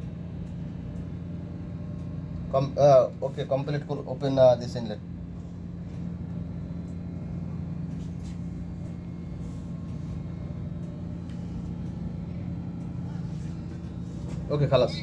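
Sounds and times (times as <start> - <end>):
low hum of dock machinery: 0.0 - 15.0.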